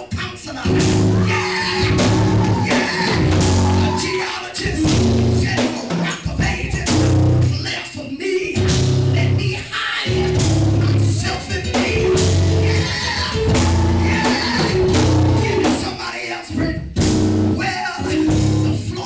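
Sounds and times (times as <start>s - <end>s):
live band music: 0.0s - 19.0s
singing voices: 0.0s - 19.0s.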